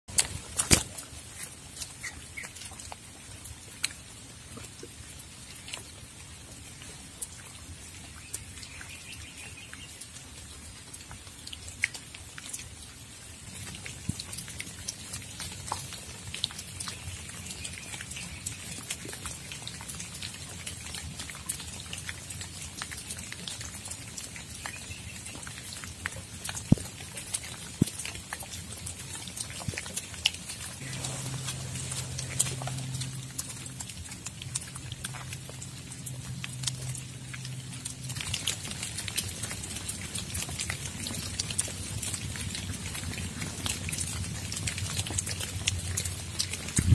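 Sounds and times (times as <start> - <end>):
rain falling: 0.1 - 46.9
raindrops ticking: 0.1 - 46.9.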